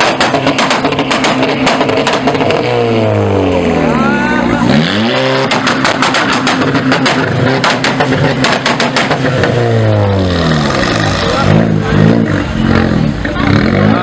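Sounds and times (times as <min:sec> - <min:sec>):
exhaust pops and crackles: 0:00.0 - 0:03.4, 0:04.8 - 0:14.0
car engines revving: 0:00.0 - 0:14.0.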